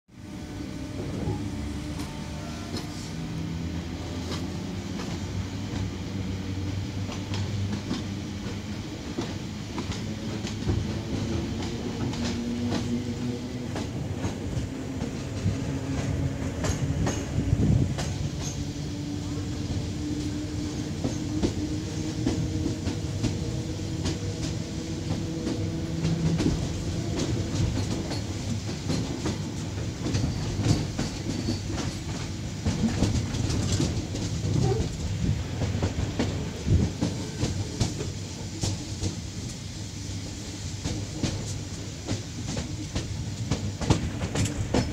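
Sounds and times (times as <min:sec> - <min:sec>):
train rumble: 0:00.1 - 0:44.9
train wheels clacking over rail joints: 0:07.0 - 0:44.9.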